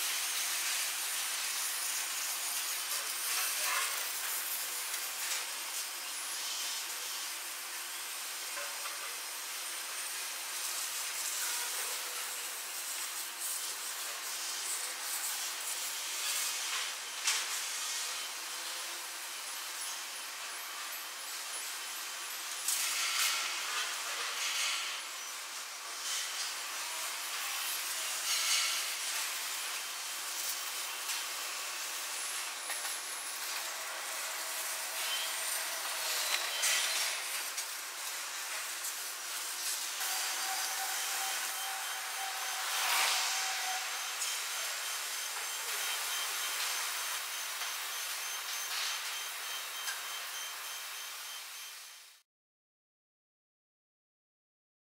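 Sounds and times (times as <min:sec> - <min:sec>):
steady hissing noise: 0:00.0 - 0:52.2.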